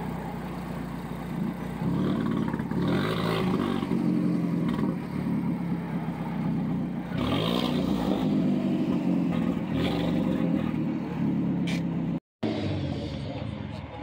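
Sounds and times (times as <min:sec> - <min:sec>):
car engine revving: 0:01.3 - 0:14.0.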